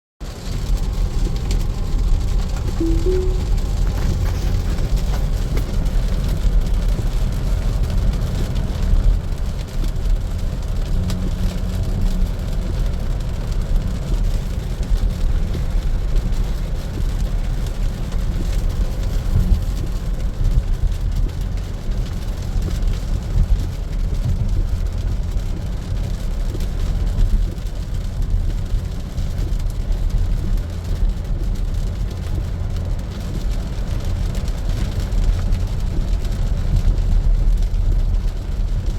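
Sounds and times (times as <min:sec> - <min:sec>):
road and tyre rumble: 0:00.2 - 0:38.9
rain and spray hiss: 0:00.3 - 0:38.9.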